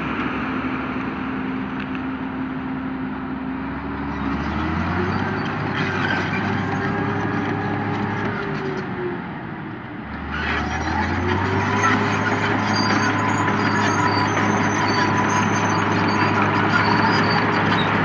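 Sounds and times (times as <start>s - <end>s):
bulldozer diesel engine revving: 0.0s - 9.3s, 10.0s - 18.0s.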